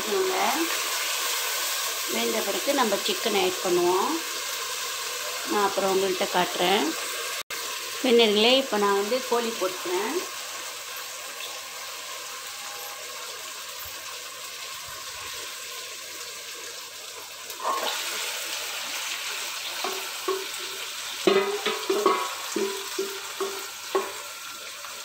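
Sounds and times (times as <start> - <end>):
masala sizzling in a pot: 0.0 - 25.0.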